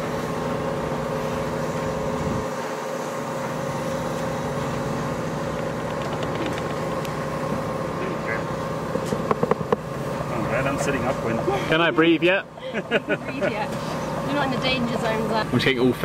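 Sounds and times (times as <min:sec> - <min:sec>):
steady engine hum: 0:00.0 - 0:16.0.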